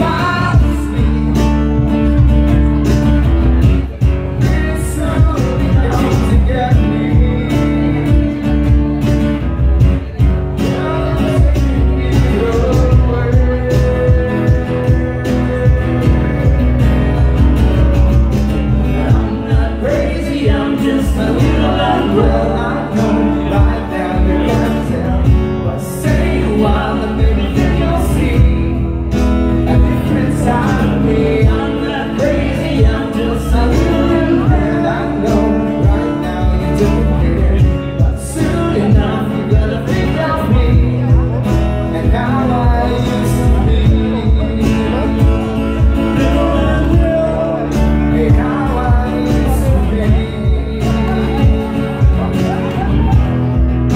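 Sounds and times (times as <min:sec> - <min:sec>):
man singing: 0:00.0 - 0:53.9
percussion steady beat: 0:00.0 - 0:53.9
strummed acoustic guitars: 0:00.0 - 0:53.9.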